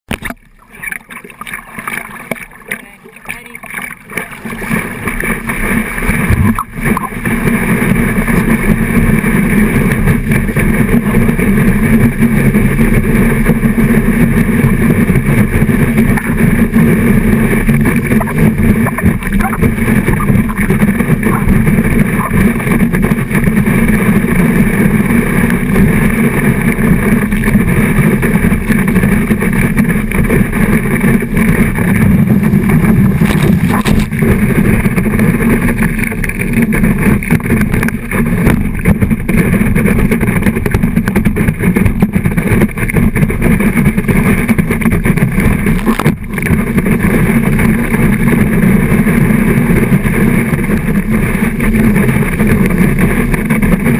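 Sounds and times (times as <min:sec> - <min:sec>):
boat motor drone: 0:00.1 - 0:53.9
muffled rush of water and wind: 0:00.1 - 0:53.9.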